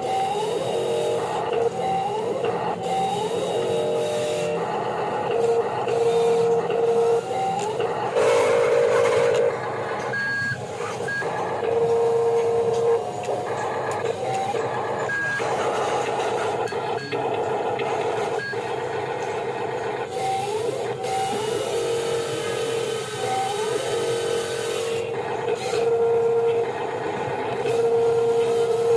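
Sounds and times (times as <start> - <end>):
model motors whirring: 0.0 - 28.9.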